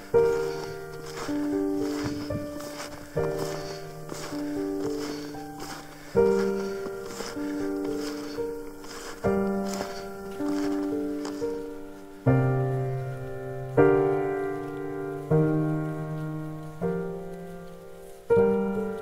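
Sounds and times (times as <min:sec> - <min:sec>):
slow piano chords with melody: 0:00.0 - 0:19.0.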